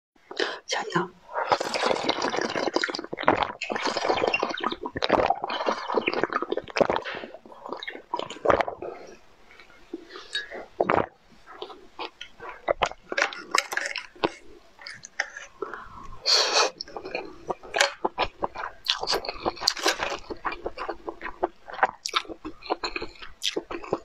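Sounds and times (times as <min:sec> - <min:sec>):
slurping and gulping a drink: 0:00.3 - 0:24.0
wet mouth clicks and smacks: 0:01.5 - 0:24.0.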